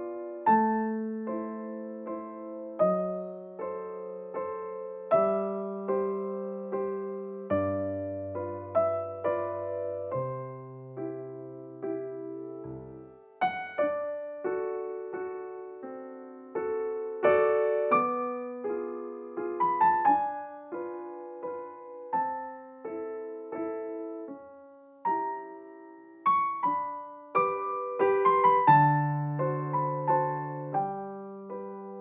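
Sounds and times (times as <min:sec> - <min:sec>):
slow gentle piano music: 0:00.0 - 0:32.0.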